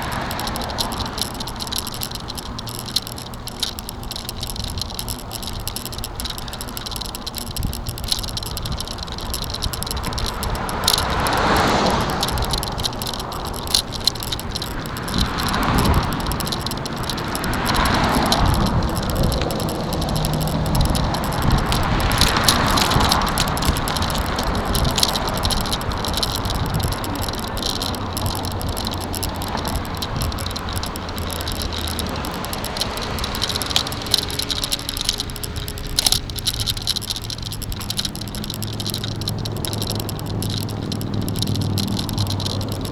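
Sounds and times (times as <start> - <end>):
bicycle rattling: 0.0 - 42.9.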